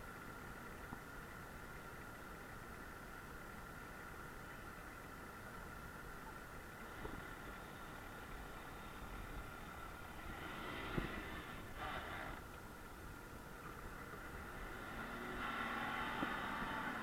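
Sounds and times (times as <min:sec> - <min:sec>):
faint engine running: 0:00.0 - 0:17.0.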